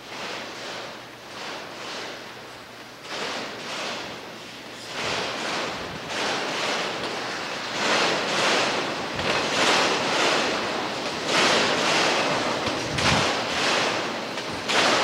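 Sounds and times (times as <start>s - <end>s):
freight train wheels on rail: 0.0s - 15.0s.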